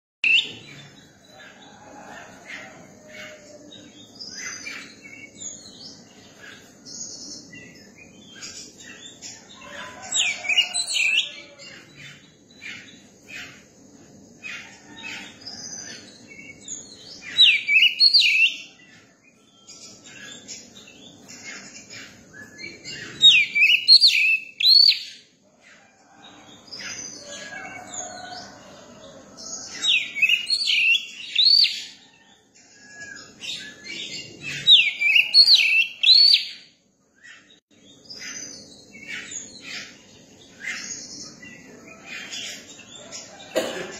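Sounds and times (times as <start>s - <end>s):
bird chirps: 0.2s - 43.8s.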